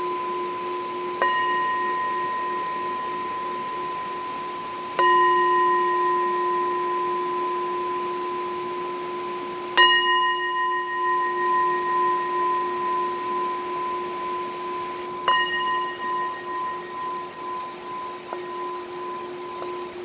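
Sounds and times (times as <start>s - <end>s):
struck metal bell ringing: 0.0s - 8.8s, 9.8s - 20.0s.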